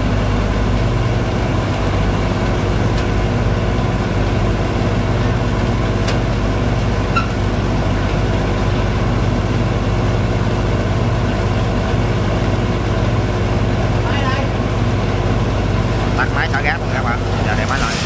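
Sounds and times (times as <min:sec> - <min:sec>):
pump engine running: 0:00.0 - 0:18.0.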